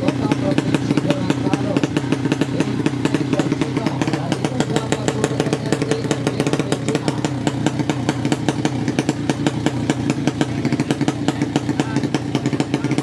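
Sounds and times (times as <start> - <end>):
motorcycle engine running rough: 0.0 - 13.0.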